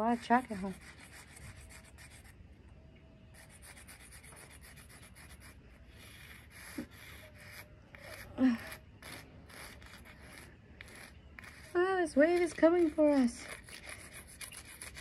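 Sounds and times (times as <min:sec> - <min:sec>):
chalk scraping on concrete: 0:00.0 - 0:02.3, 0:03.3 - 0:15.0.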